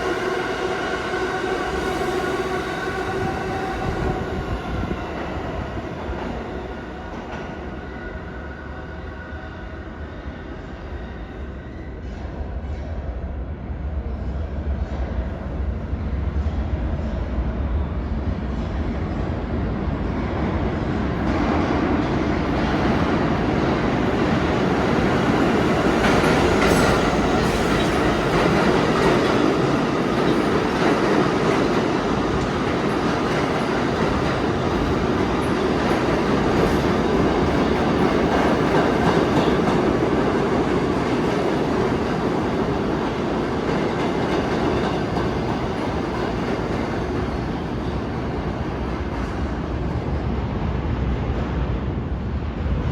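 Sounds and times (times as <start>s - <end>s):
subway train rumbling: 0.0s - 52.9s.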